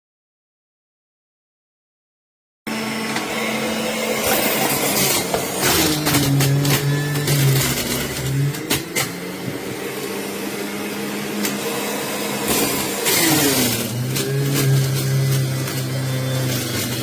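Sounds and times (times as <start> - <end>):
electric juicer motor humming: 2.7 - 17.0.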